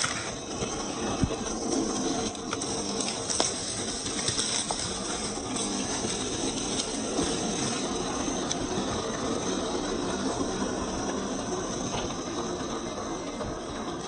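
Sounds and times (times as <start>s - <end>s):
toy car motor and gear whir: 0.0s - 14.0s
wheels over rocks and gravel: 0.0s - 14.0s.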